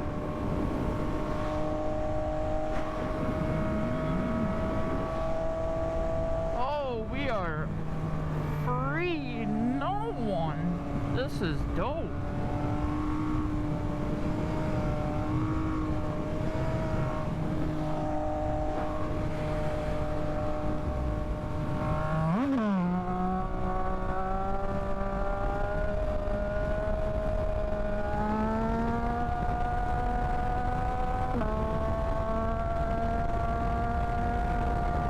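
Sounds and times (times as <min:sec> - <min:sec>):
wind rushing over microphone: 0:00.0 - 0:08.5, 0:09.4 - 0:35.0.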